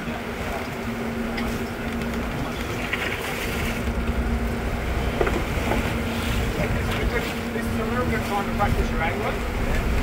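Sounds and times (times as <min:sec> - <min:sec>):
boat engine running: 0:00.0 - 0:10.0
wind and water rushing: 0:00.0 - 0:10.0.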